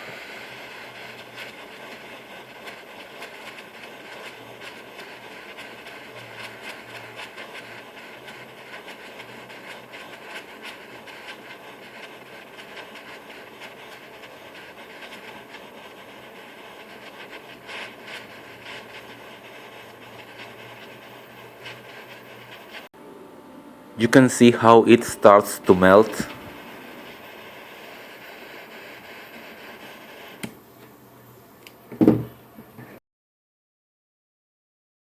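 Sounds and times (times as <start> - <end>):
gas torch flame hissing: 0.0 - 30.6.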